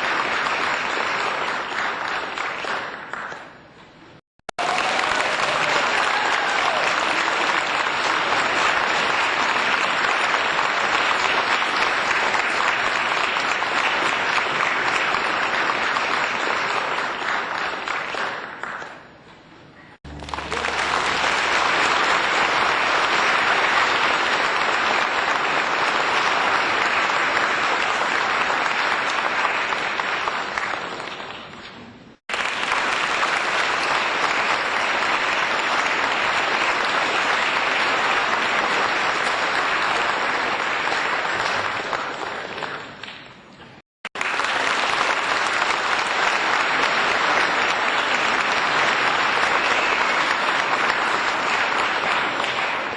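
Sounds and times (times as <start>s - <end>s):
applause: 0.0s - 52.9s.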